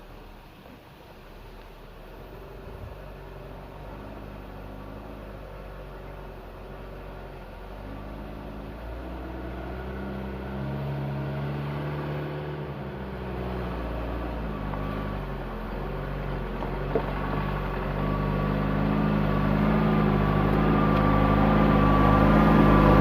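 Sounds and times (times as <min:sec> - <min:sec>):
truck engine working under load: 0:00.0 - 0:23.0.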